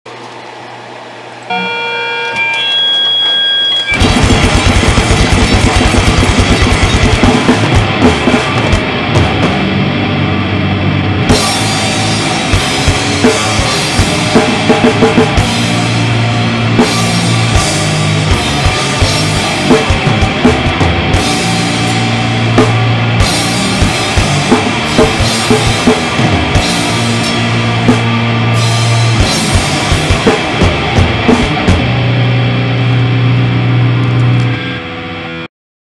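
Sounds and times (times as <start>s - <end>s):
steady held tones: 0.1s - 35.5s
drum kit blast beats: 3.9s - 34.4s.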